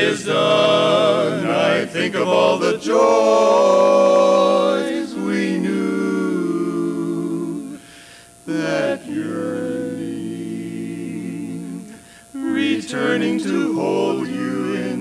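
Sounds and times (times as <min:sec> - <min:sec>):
male quartet singing a cappella: 0:00.0 - 0:15.0.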